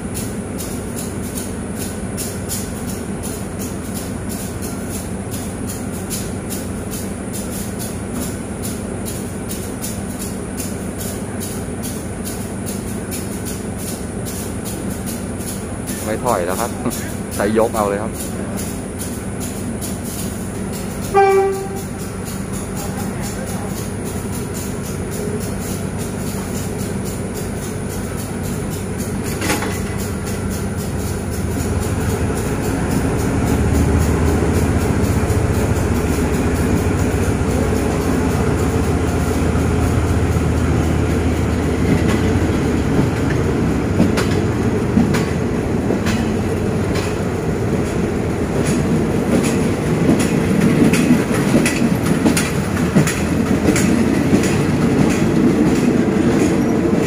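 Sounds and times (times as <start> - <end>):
railway carriages rumbling past: 0.0 - 57.0
wheels clicking over rail joints: 0.1 - 57.0.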